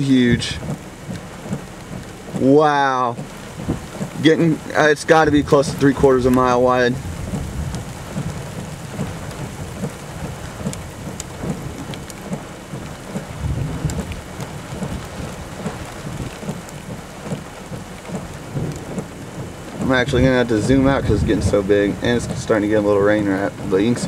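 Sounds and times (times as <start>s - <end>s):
low thunder rumble: 0.0s - 24.0s
rain hiss: 0.0s - 24.0s
raindrop ticks: 0.0s - 24.0s.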